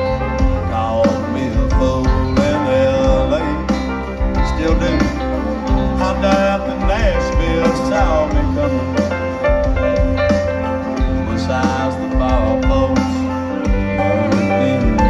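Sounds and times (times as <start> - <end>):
bass: 0.0 - 15.0
drums: 0.0 - 15.0
keyboards: 0.0 - 15.0.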